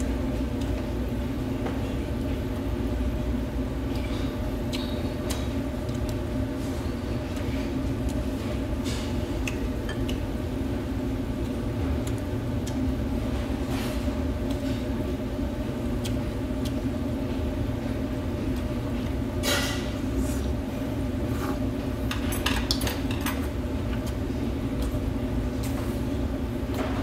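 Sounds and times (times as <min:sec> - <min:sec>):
ventilation fan humming: 0:00.0 - 0:27.0.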